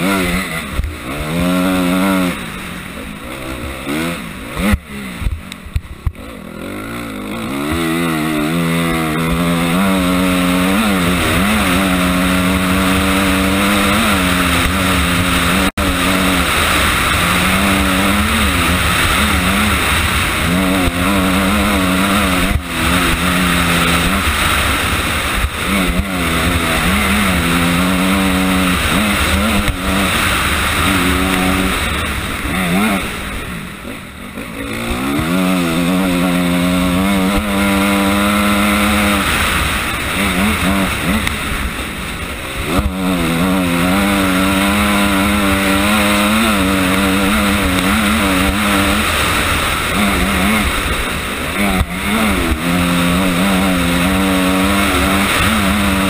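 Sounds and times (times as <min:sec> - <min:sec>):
motorcycle engine revving under load: 0:00.0 - 0:56.0.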